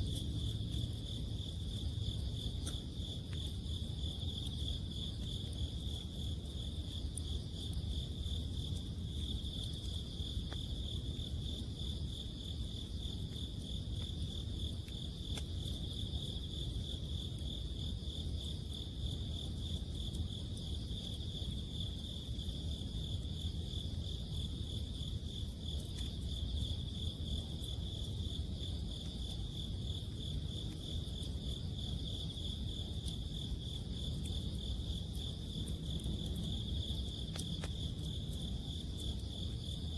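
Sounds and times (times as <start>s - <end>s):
campfire crackles: 0.0s - 39.9s
crickets trilling: 0.0s - 39.9s.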